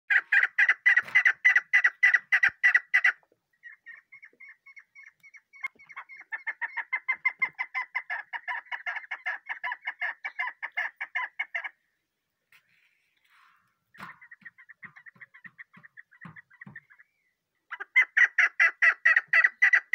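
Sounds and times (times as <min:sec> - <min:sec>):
partridge clucking calls: 0:00.1 - 0:11.8, 0:12.6 - 0:19.9.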